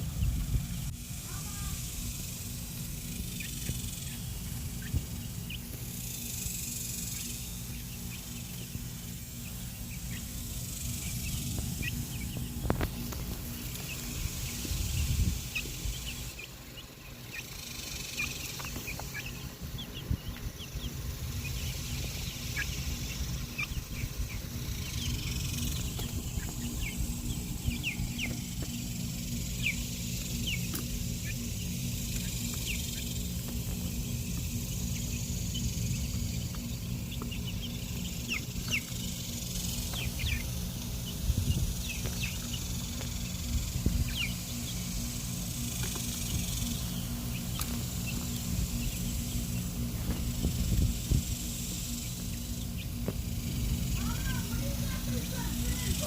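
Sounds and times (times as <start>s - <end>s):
low rumble: 0.0s - 16.9s, 19.1s - 56.0s
chicks peeping: 0.0s - 56.0s.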